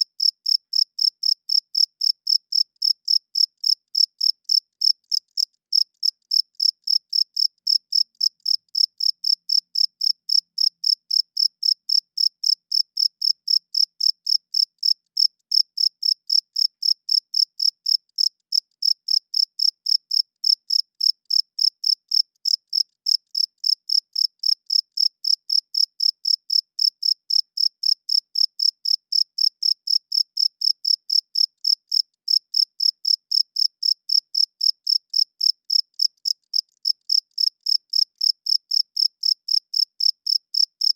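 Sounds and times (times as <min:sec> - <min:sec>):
cricket chirping: 0:00.2 - 0:40.9.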